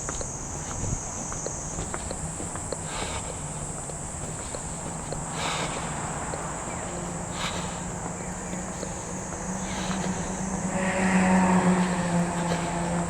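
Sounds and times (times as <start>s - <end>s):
high-pitched insect drone: 0.0s - 13.0s
vehicle engine hum: 0.0s - 13.0s.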